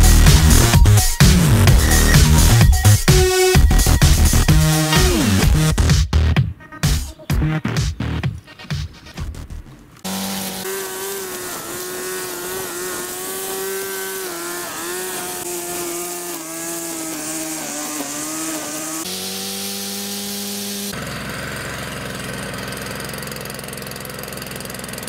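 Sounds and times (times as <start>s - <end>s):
small engine running fast: 0.0s - 5.5s, 10.0s - 25.0s.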